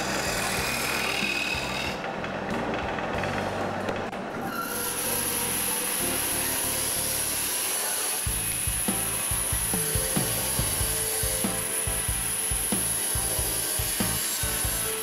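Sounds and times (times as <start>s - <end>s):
bandsaw cutting wood: 0.0s - 2.0s, 4.5s - 15.0s
wood lathe turning: 0.0s - 15.0s.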